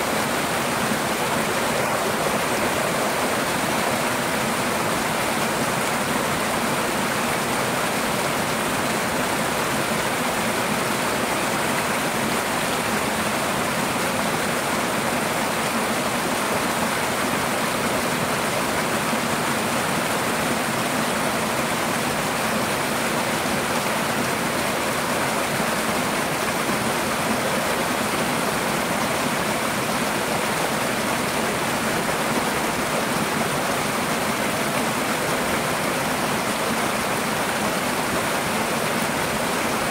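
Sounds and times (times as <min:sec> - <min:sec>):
waterfalls splashing over rocks: 0:00.0 - 0:39.9.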